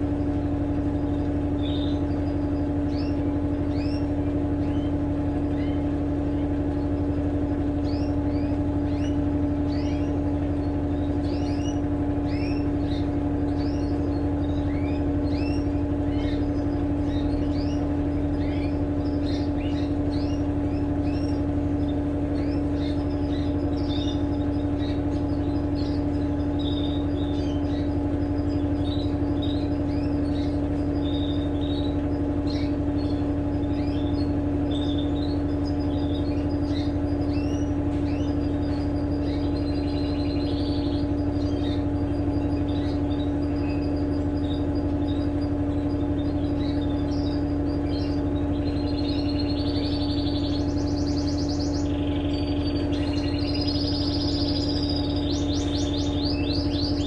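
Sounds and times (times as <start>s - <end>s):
birds chirping: 0.0s - 57.0s
washing machine humming: 0.0s - 57.0s.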